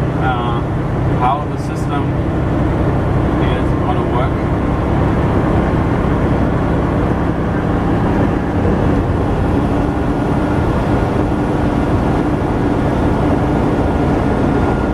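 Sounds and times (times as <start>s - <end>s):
road noise: 0.0s - 14.9s
truck engine cruising: 0.0s - 14.9s.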